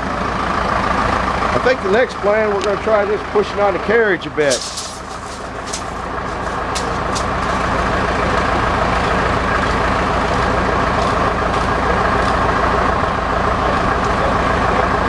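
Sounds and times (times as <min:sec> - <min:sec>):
large engine running: 0:00.0 - 0:15.0.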